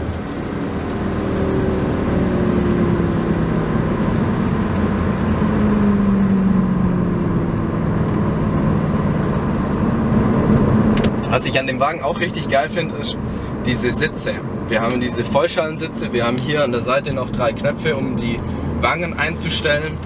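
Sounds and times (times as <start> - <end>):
car engine at speed: 0.0 - 20.0
road noise: 0.0 - 20.0.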